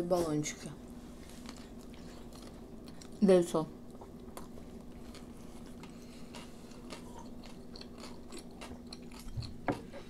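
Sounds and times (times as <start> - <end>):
faint steady hum: 0.0 - 10.0
people chewing: 1.2 - 3.2, 3.9 - 10.0.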